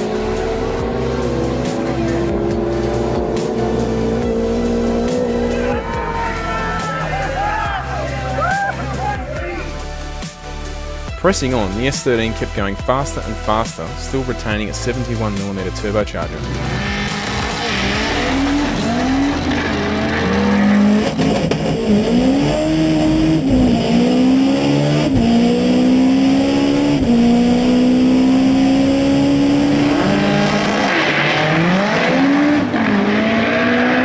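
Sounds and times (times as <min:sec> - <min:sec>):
turbocharged engine revving through gears: 0:00.0 - 0:10.0, 0:14.0 - 0:34.0.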